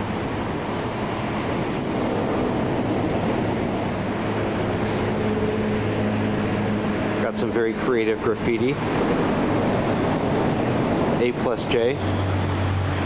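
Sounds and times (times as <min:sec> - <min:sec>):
road traffic rushing: 0:00.0 - 0:13.0
vehicle engine hum: 0:00.0 - 0:13.0.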